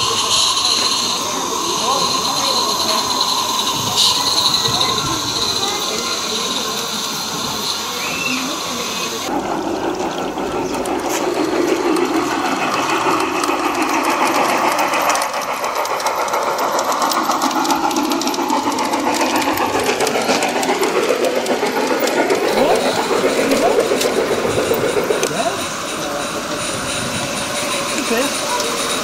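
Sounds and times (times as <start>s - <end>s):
steam hiss: 0.0s - 29.0s
steam locomotive chuffing: 0.0s - 29.0s.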